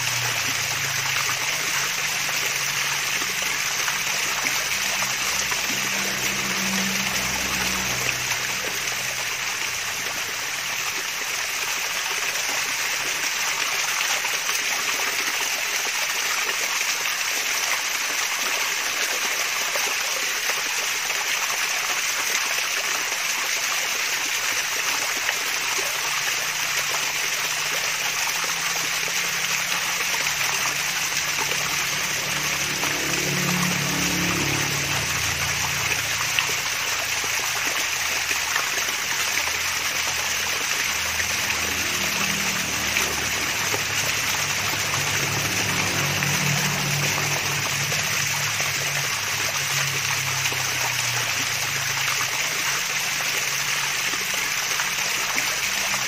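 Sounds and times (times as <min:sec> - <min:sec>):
water splashing down waterfall: 0:00.0 - 0:56.0.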